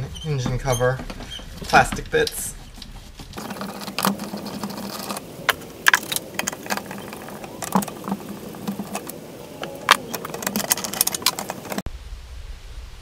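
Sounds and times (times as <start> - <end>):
plastic clicks knocks and rattles: 0.4 - 9.2, 9.8 - 11.8.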